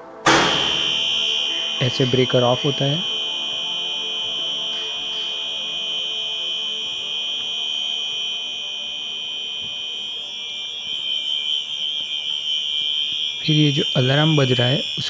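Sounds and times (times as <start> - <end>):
high-pitched electronic alarm tone: 0.0 - 15.0.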